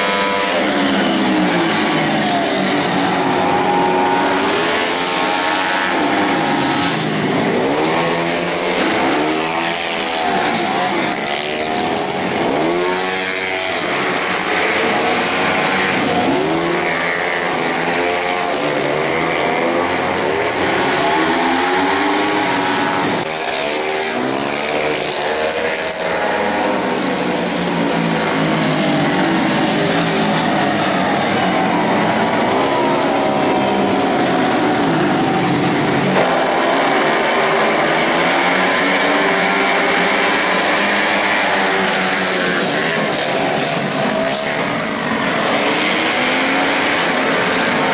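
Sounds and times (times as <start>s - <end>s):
racing motorcycles revving: 0.0s - 47.9s.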